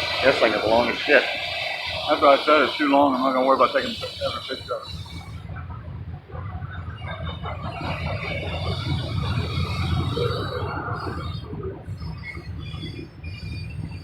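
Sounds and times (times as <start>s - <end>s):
freight train rumbling past: 0.0s - 14.0s
high-pitched wheel squeals: 0.0s - 14.0s
railcars clattering: 0.0s - 14.0s.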